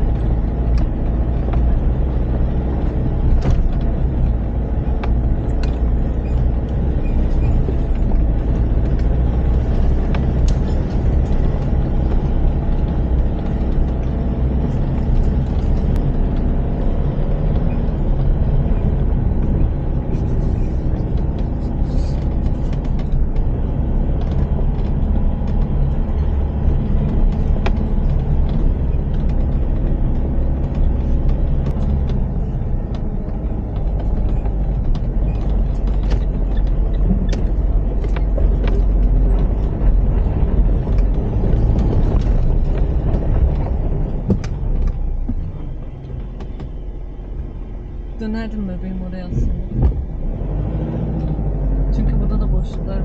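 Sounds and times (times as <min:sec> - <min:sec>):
knocks and rattles: 0:00.0 - 0:47.6
engine and road rumble: 0:00.0 - 0:53.0.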